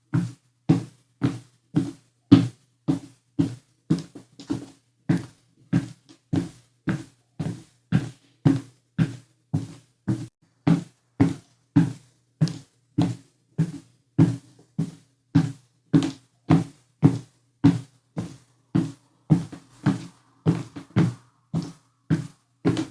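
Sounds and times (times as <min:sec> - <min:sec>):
heavy footsteps climbing stairs: 0:00.2 - 0:22.9.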